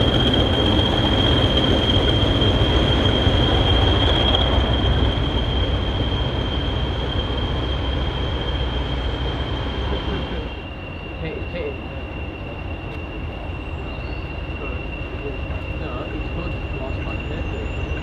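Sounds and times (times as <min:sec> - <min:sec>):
diesel locomotive engine rumble: 0:00.0 - 0:18.0
wheel flanges squealing: 0:00.0 - 0:18.0.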